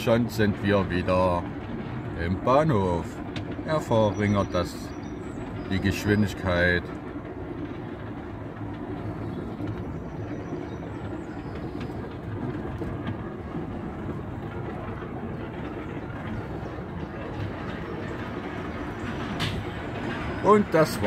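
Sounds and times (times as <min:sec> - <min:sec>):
ride car engine running: 0:00.0 - 0:21.0.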